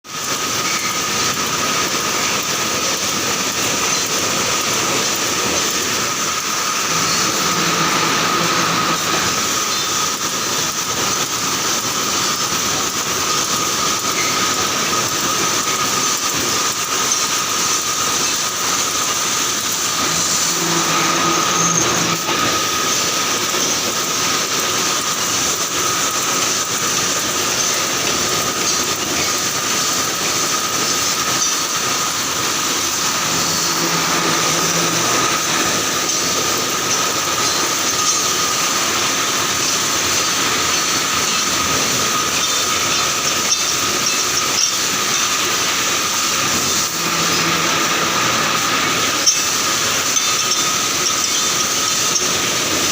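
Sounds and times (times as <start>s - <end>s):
welding machine clatter and whine: 0.0s - 52.9s.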